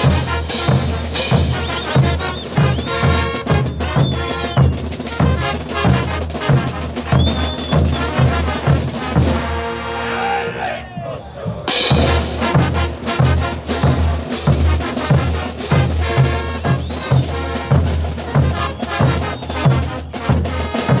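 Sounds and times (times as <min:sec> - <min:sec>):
bass drum and snare beat: 0:00.0 - 0:09.7, 0:11.5 - 0:21.0
brass band playing: 0:00.0 - 0:10.8, 0:11.7 - 0:21.0.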